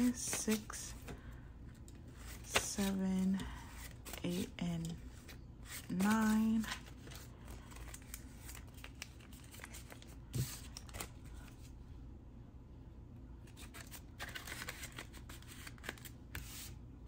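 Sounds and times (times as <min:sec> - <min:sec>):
banknotes rustling and clicking: 0:00.0 - 0:11.6, 0:13.5 - 0:16.7.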